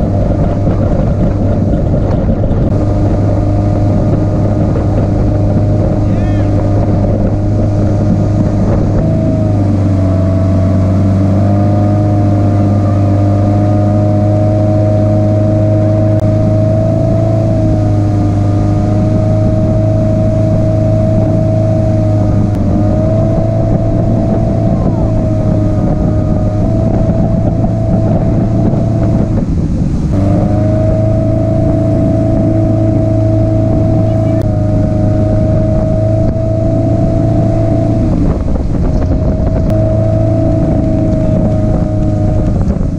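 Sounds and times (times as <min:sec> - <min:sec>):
boat wake rushing: 0:00.0 - 0:42.9
motorboat engine running: 0:00.0 - 0:42.9.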